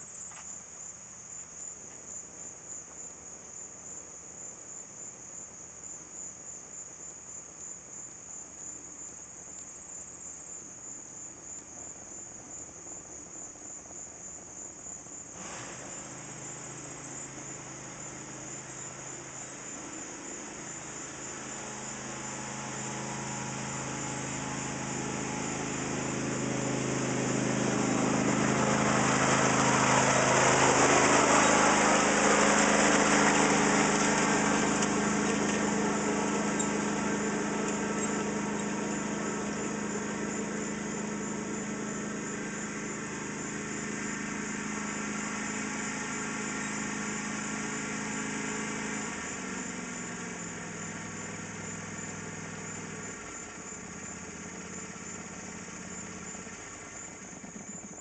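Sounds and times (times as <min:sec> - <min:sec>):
lawn tractor engine running: 0:11.0 - 0:58.0.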